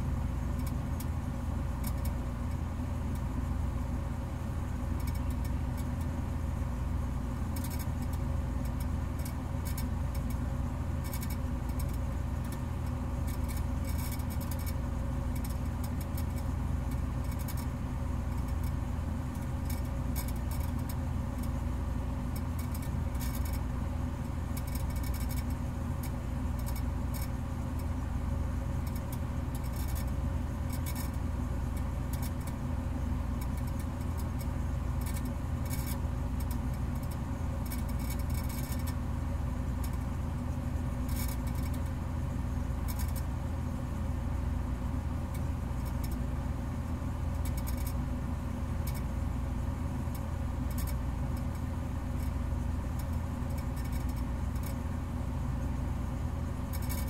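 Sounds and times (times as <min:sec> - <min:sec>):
constant hum: 0:00.0 - 0:57.0.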